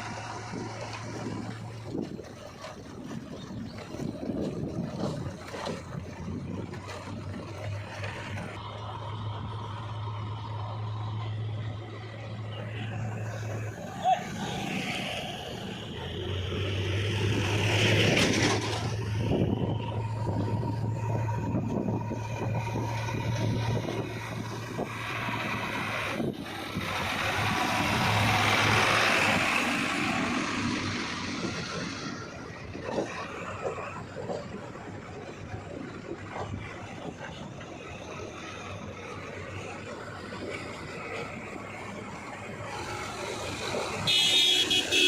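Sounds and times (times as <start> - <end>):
backhoe loader diesel engine: 0.0 - 45.0.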